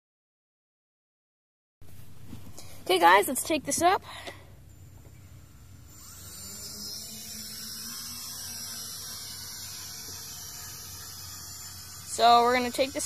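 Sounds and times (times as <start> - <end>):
quadcopter motors whining: 2.4 - 13.0.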